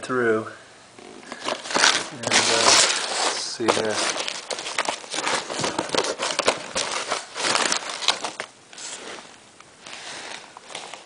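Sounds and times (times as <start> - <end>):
magazine paper rustling: 1.3 - 11.0.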